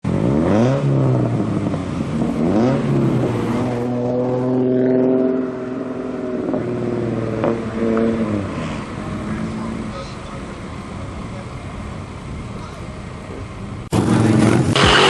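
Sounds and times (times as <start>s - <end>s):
car engine revving: 0.0s - 12.2s, 13.4s - 15.0s.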